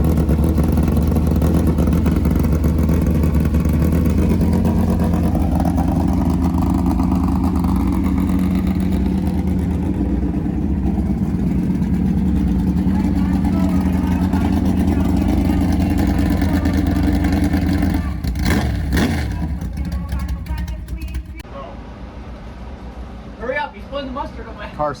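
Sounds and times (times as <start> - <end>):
vehicle engine running steadily: 0.0 - 25.0.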